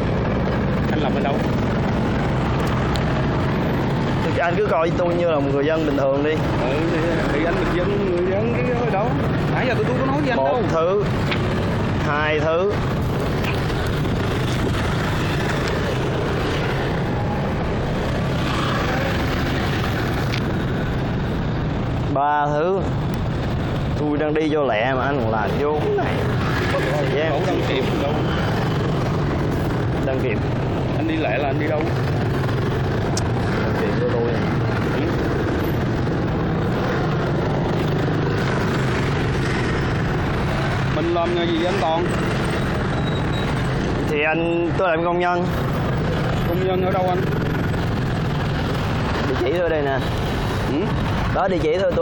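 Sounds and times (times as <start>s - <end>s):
road traffic going by: 0.0s - 52.0s
vehicle engines humming: 0.0s - 52.0s.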